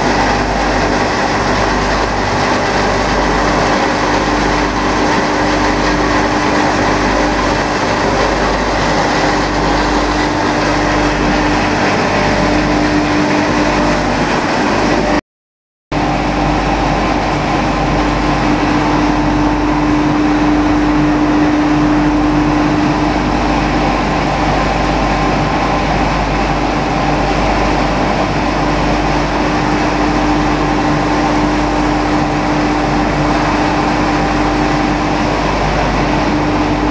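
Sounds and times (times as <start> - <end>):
loud machinery humming: 0.0 - 15.2, 15.9 - 36.9.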